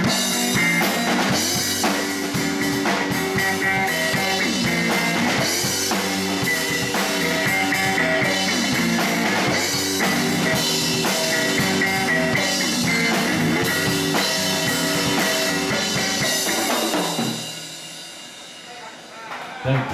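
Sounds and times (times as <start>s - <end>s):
electric guitar licks: 0.0s - 17.4s
electric bass: 0.0s - 17.5s
drum kit: 0.0s - 19.9s.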